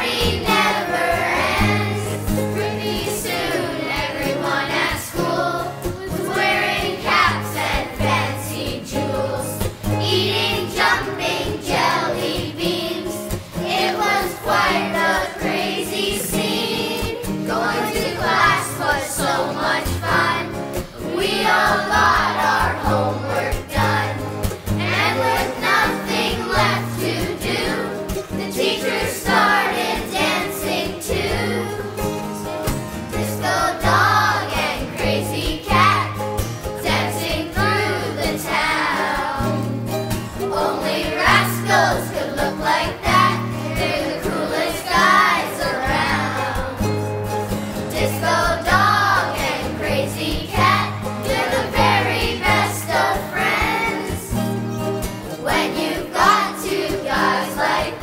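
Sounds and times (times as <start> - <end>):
people singing: 0.0 - 58.0.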